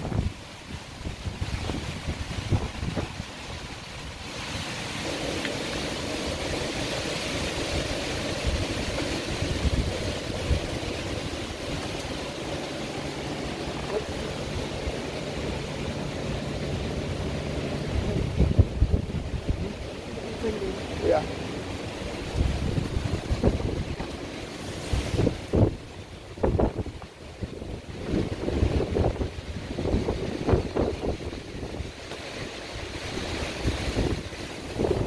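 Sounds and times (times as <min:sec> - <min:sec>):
heavy rain: 0:00.0 - 0:35.0
strong wind gusts on microphone: 0:00.0 - 0:35.0.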